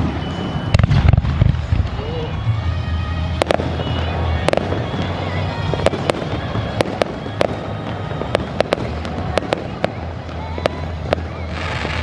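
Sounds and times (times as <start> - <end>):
fireworks cracking: 0.0 - 12.0
low rumble: 0.0 - 12.0.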